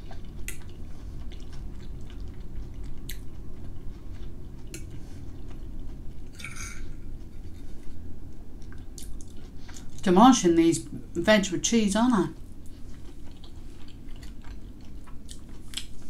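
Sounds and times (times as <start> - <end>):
chewing soft food: 0.0 - 10.1, 12.3 - 16.0.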